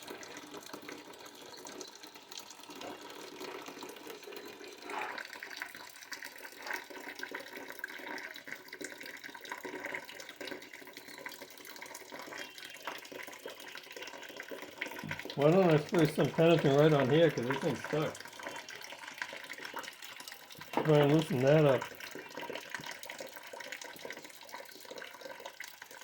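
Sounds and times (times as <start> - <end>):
water draining in a stream: 0.0 - 26.0.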